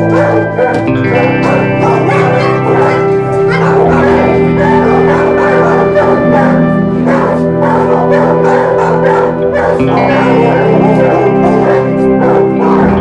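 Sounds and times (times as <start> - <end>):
dogs barking: 0.0 - 13.0
guitar music: 0.0 - 13.0.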